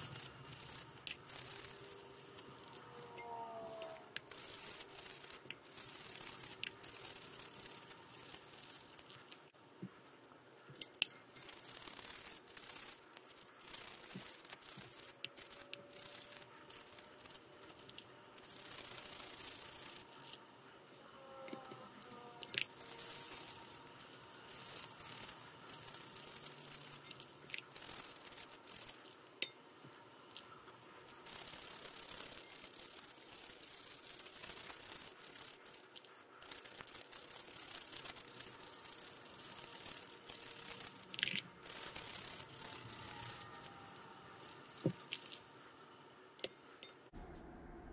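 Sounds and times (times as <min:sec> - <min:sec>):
toothbrush scrubbing in soapy water: 0:00.0 - 0:09.5, 0:10.5 - 0:20.4, 0:21.7 - 0:29.3, 0:30.3 - 0:45.5.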